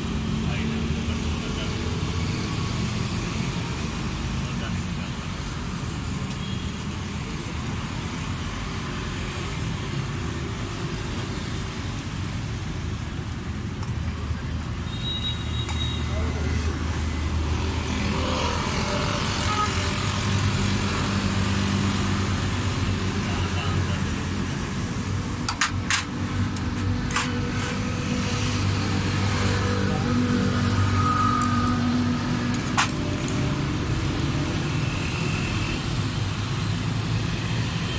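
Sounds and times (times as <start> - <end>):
road traffic rumble: 0.0 - 37.9.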